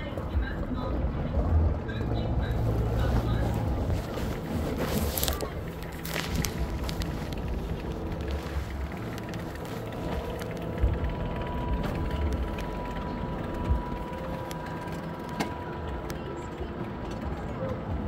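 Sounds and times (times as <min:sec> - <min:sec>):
coaster cart rumbling on rail: 0:00.0 - 0:18.0.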